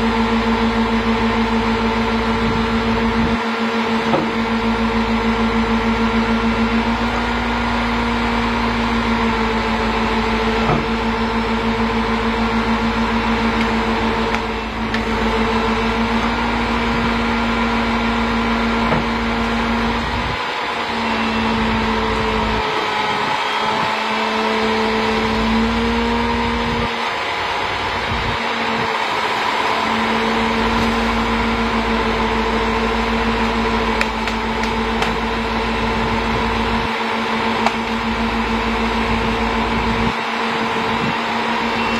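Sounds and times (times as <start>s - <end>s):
truck engine droning: 0.0s - 41.9s.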